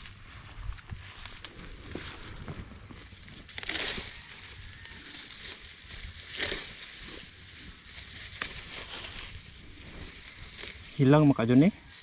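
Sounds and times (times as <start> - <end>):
stalks crunching and rustling: 0.0 - 12.0
sickle cutting rice stalks: 1.0 - 12.0.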